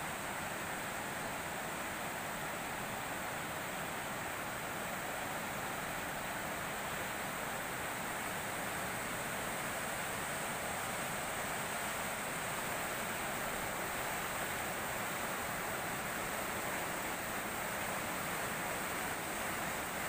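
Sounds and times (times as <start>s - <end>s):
river water rushing over weir: 0.0s - 20.0s.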